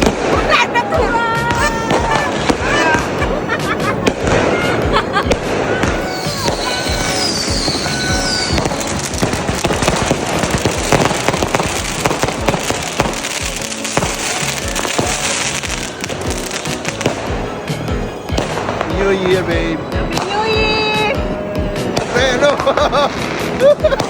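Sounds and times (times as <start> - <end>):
fireworks cracking and popping: 0.0 - 24.0
music: 0.0 - 24.0
falling firework whistle: 1.4 - 24.0.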